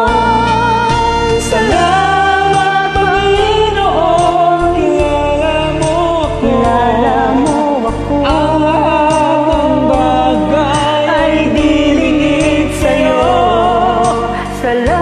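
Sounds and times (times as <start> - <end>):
karaoke backing track: 0.0 - 15.0
man and woman singing duet: 0.0 - 15.0.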